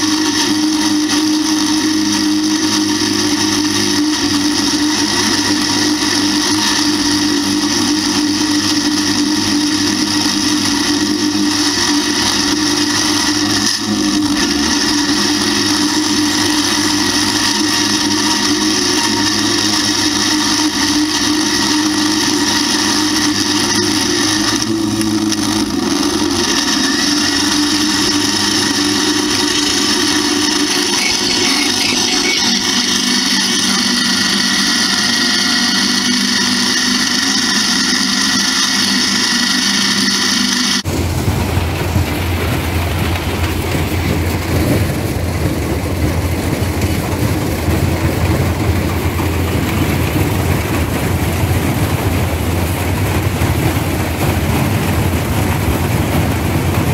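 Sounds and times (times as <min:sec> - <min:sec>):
corn picker whirring: 0:00.0 - 0:56.9
tractor engine running: 0:00.0 - 0:56.9.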